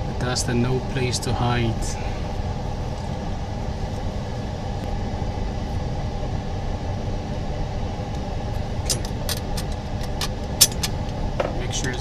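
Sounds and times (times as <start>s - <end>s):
faint constant tone: 0.0s - 12.0s
machinery humming: 0.0s - 12.0s.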